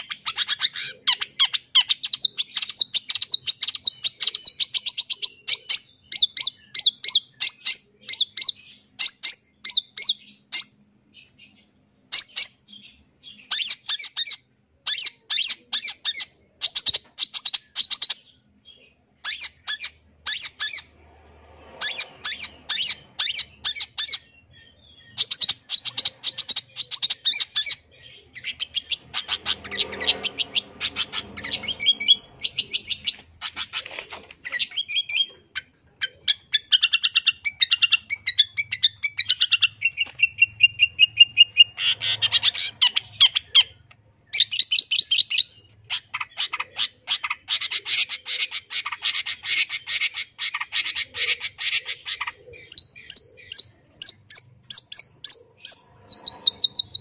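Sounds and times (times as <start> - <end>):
bird singing fast chattering song: 0.0 - 21.0, 21.8 - 57.0.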